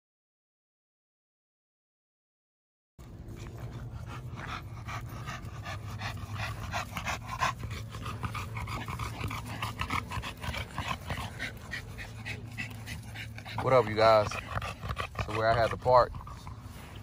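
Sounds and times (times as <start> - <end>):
dogs panting: 3.0 - 17.0
steady low hum: 3.0 - 17.0.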